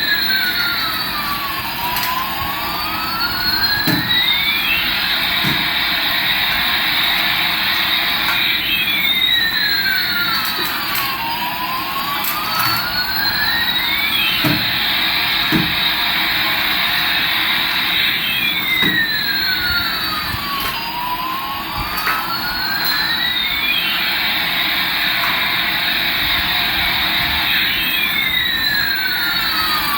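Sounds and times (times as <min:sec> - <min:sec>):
siren-like sweeping tones: 0:00.0 - 0:29.9.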